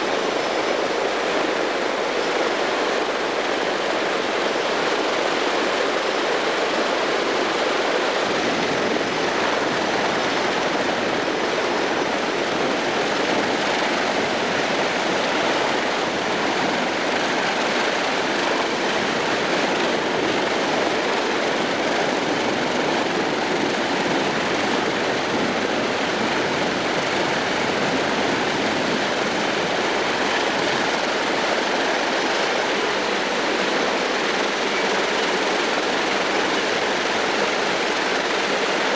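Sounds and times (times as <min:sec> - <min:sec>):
radial engine and propeller roar: 0:00.0 - 0:38.9.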